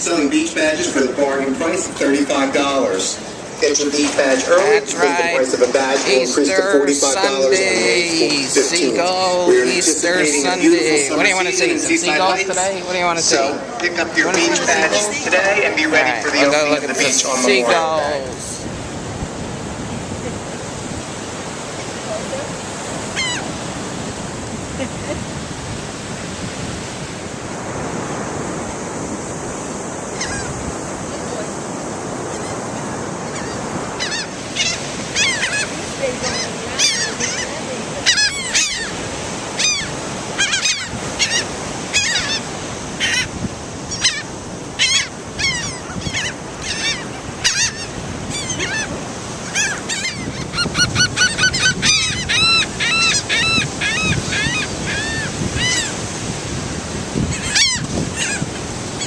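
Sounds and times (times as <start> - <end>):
ocean surf: 0.0 - 59.0
seagulls calling: 0.1 - 18.6, 20.0 - 26.2, 29.7 - 59.0.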